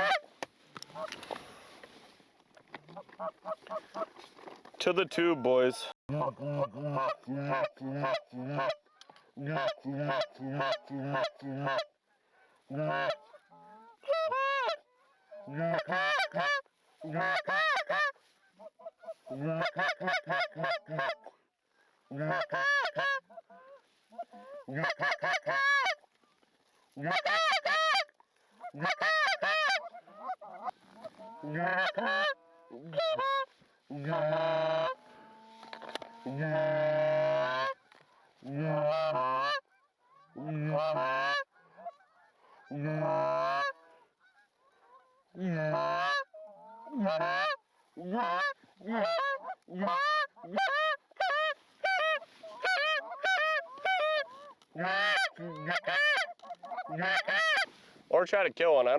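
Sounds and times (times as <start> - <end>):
geese honking: 0.0 - 1.7, 2.9 - 4.2, 4.8 - 21.4, 22.0 - 26.4, 27.0 - 58.9.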